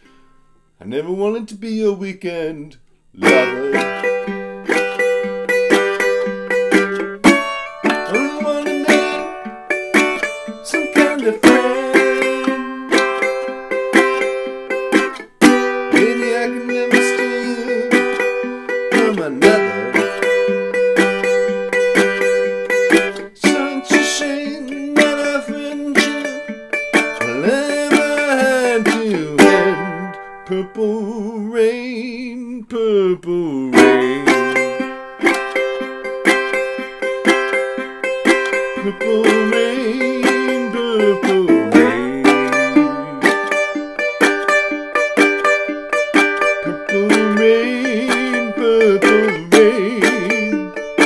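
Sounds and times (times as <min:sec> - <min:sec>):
resonator guitar picked bluegrass: 0:00.0 - 0:51.0.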